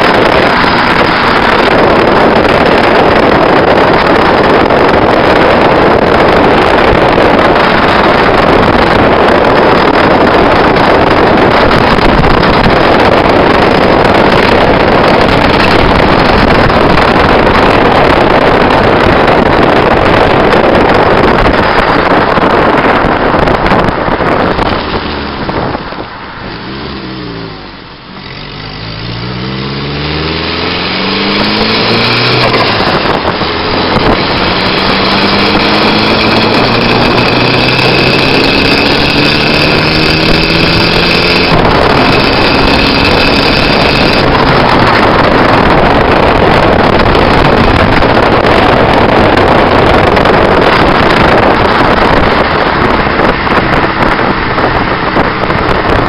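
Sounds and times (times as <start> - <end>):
car engine accelerating: 0.0 - 56.0
wind rushing over microphone: 0.0 - 56.0.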